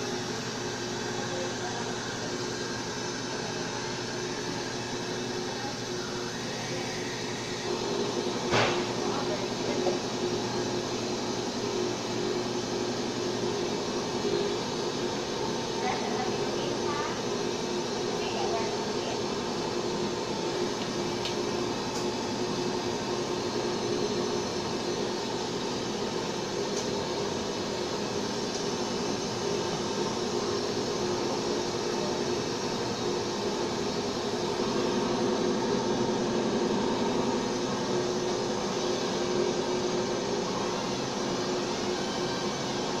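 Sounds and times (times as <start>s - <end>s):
machine hum and hiss: 0.0s - 43.0s.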